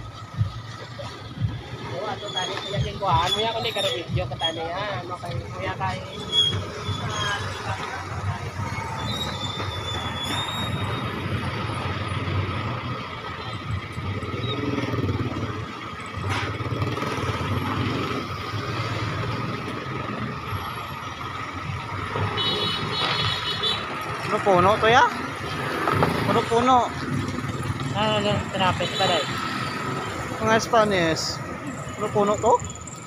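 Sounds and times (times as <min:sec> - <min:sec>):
vehicle engines idling: 0:00.0 - 0:33.0.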